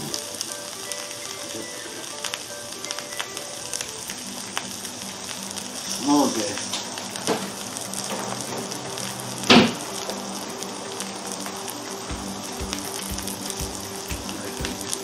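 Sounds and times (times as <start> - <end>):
potatoes sizzling in a frying pan: 0.0 - 15.0.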